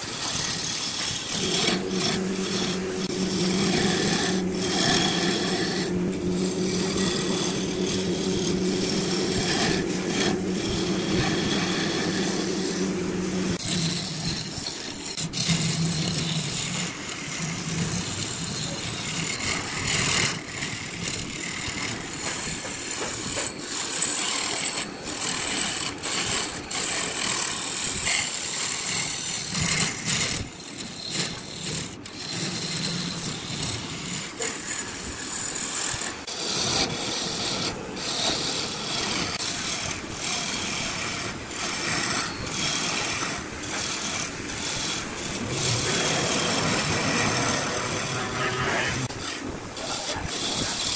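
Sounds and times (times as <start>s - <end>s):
steel tool scraping wood: 0.0s - 50.9s
wood lathe humming: 0.0s - 50.9s.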